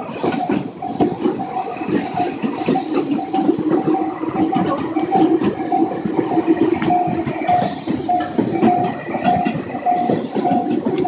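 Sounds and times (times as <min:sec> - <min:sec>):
level-crossing warning bell: 0:00.0 - 0:11.0
train passing on track: 0:00.0 - 0:11.0.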